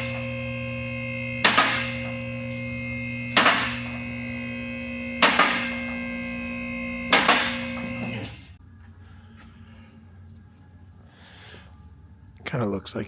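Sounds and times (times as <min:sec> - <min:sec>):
synth drone: 0:00.0 - 0:11.0.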